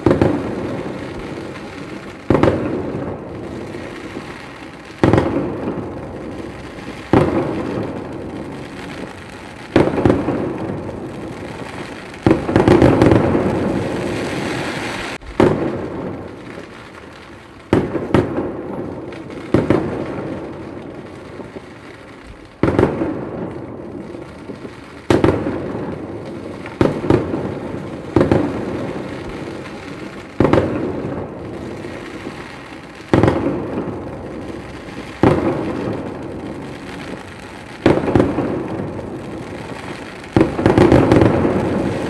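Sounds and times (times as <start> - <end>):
firework shells bursting: 0.0 - 21.5, 24.4 - 42.0
firework crackling: 0.0 - 42.0.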